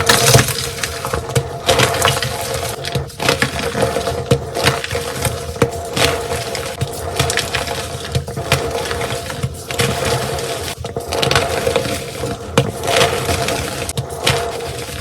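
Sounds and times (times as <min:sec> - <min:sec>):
chalk being crushed: 0:00.0 - 0:15.0.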